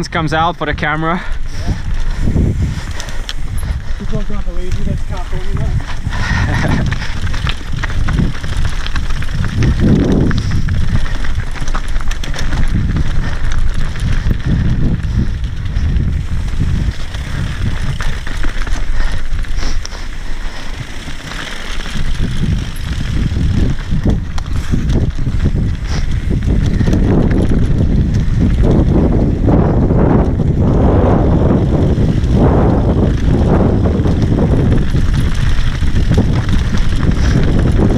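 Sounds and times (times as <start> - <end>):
bike rattling over stones: 0.0 - 37.9
wind rumble on microphone: 0.0 - 37.9
tyres rolling over loose rock: 1.4 - 37.9.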